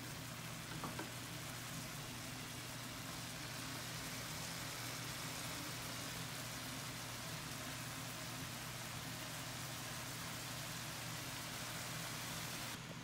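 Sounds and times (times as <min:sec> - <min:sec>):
sauce sizzling in a pan: 0:00.0 - 0:12.8.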